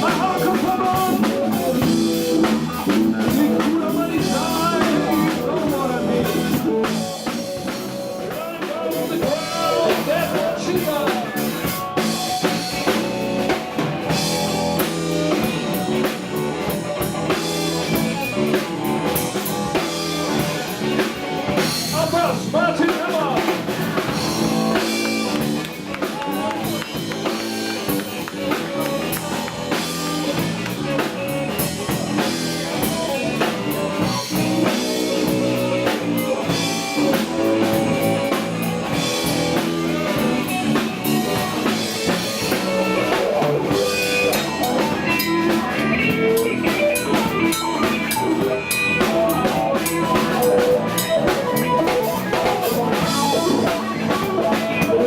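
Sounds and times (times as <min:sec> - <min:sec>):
blues-rock band playing: 0:00.0 - 0:55.0.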